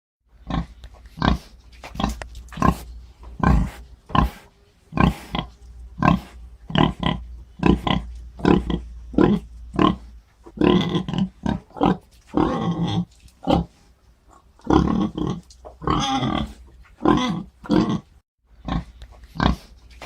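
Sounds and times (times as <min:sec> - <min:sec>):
pig grunting: 0:00.4 - 0:19.8.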